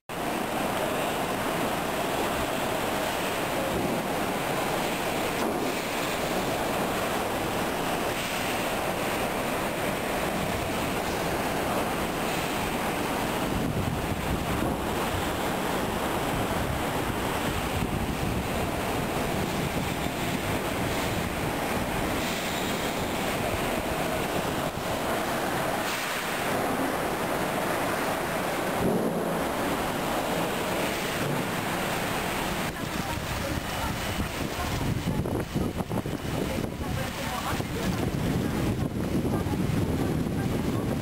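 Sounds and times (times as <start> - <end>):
driving rain: 0.1 - 41.0
strong wind: 0.1 - 41.0
wind buffeting microphone: 1.0 - 41.0.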